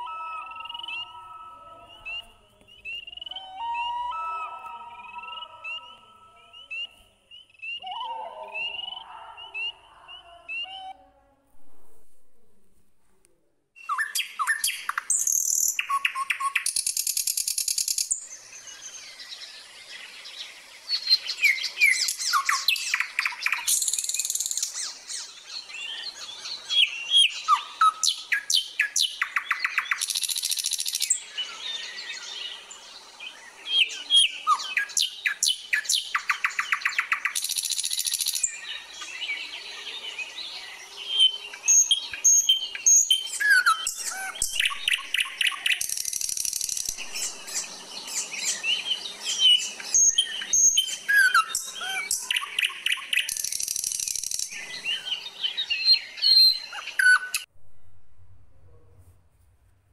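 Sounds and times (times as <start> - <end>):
birds chirping and whistling: 0.0 - 11.0, 13.8 - 57.5.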